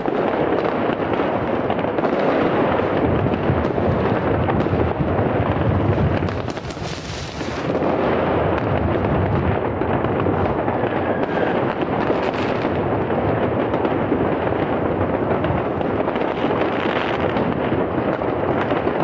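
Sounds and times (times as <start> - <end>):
fireworks and firecrackers exploding: 0.0 - 19.0.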